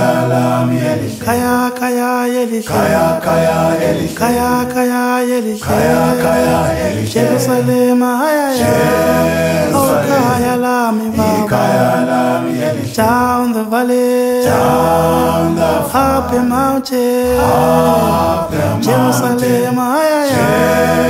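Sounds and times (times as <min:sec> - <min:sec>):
voices singing a chant: 0:00.0 - 0:21.0.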